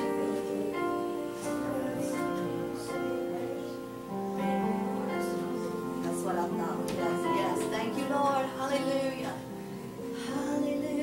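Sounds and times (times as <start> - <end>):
slow worship music: 0.0 - 11.0.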